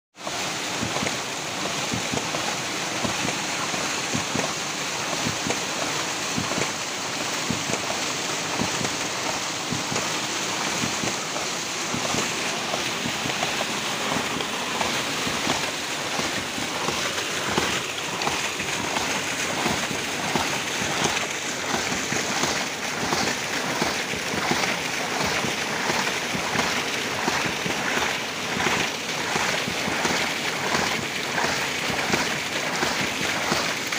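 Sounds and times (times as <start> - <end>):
water gushing and splashing: 0.2 - 33.9.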